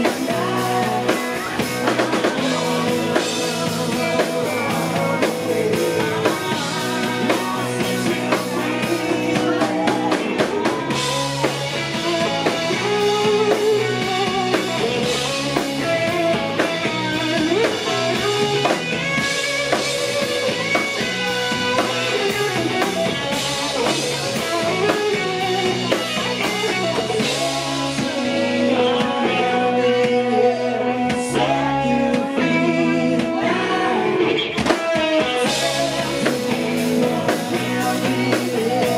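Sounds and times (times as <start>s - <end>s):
country-rock band playing: 0.0s - 38.9s
man singing lead: 0.0s - 38.9s.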